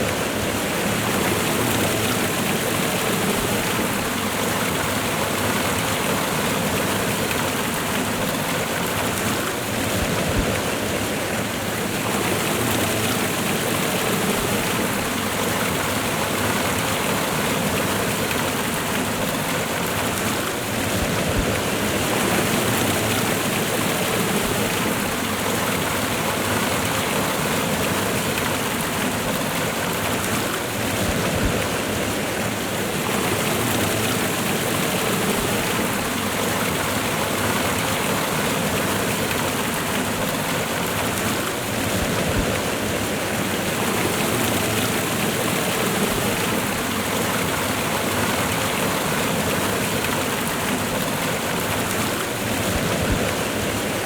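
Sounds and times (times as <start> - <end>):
waterfall and river rushing: 0.0 - 54.0.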